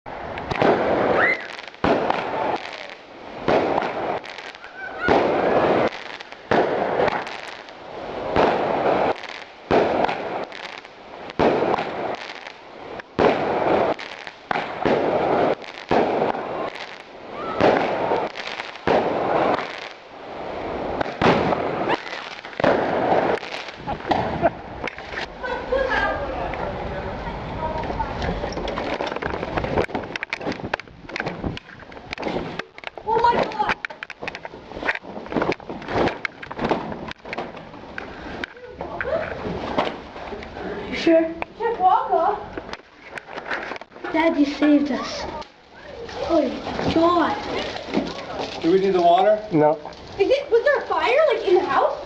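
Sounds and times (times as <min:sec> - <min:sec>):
fireworks banging: 0:00.1 - 0:52.0
fireworks crackling hiss: 0:00.1 - 0:52.0.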